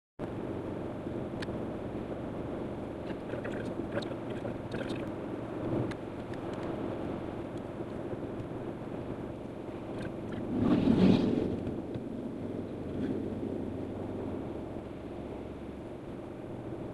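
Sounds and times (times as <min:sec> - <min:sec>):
car road and engine noise: 0:00.2 - 0:16.9.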